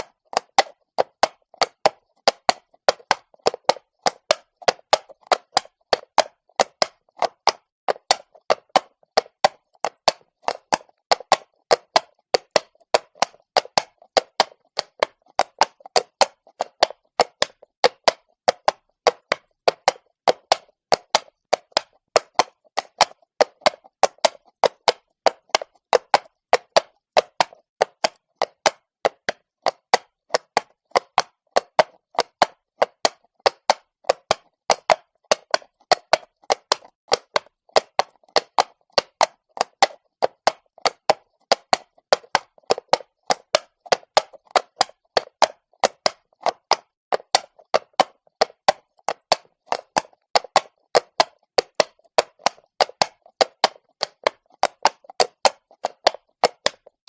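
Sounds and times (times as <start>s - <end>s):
horse hooves clopping on cobblestone: 0.0s - 57.0s.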